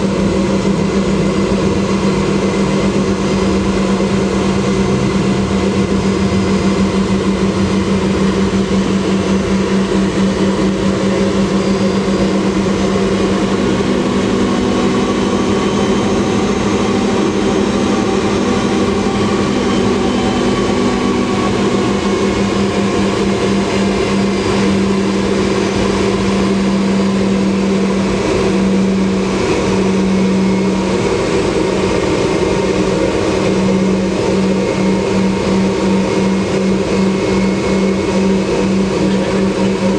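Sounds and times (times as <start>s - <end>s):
faint high engine whine: 0.0s - 39.9s
jet engines roaring in cabin: 0.0s - 39.9s.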